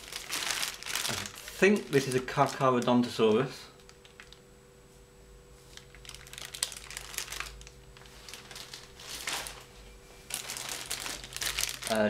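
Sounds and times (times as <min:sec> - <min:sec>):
plastic bags crinkling: 0:00.0 - 0:04.4, 0:05.7 - 0:12.0
faint steady hum: 0:00.0 - 0:12.0.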